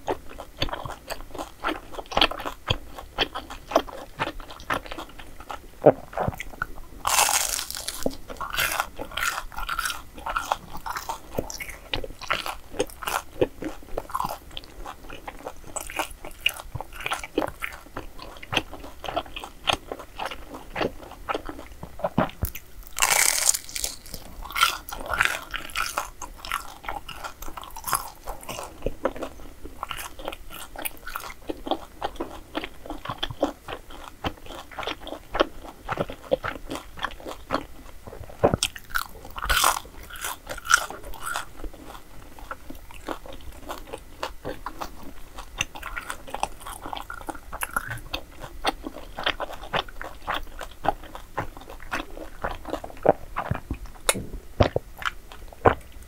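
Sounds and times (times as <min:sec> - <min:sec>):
crunchy bites and chewing: 0:00.0 - 0:56.0.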